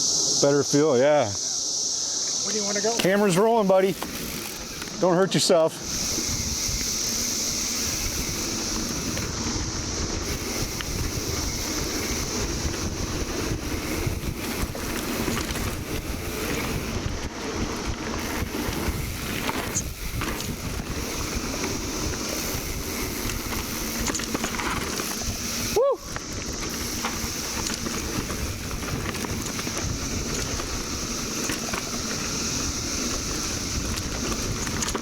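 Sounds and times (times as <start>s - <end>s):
cicada chorus drone: 0.0s - 35.0s
wind buffeting microphone: 5.8s - 35.0s.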